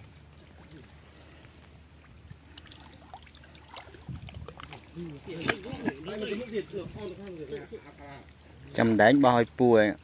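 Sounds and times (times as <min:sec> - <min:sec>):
muddy water sloshing: 0:00.0 - 0:10.0
small splashes: 0:00.0 - 0:10.0.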